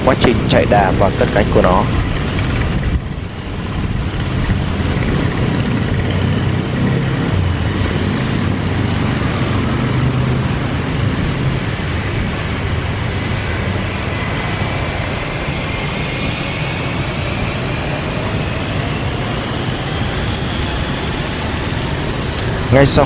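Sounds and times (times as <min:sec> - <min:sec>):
jet engines rumbling: 0:00.0 - 0:23.0
thin engine whine: 0:00.0 - 0:23.0.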